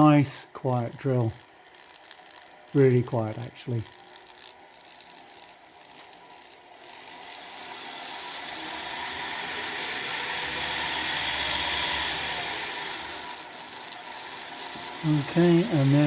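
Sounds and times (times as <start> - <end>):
pillar drill motor whirring: 0.0 - 16.0.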